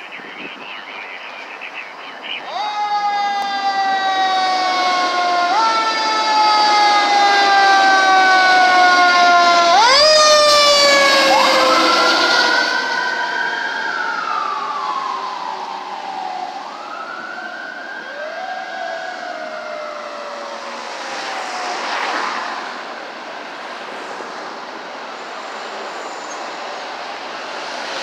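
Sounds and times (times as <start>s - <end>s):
fire engine siren wailing: 0.0s - 24.0s
traffic noise: 0.0s - 28.0s.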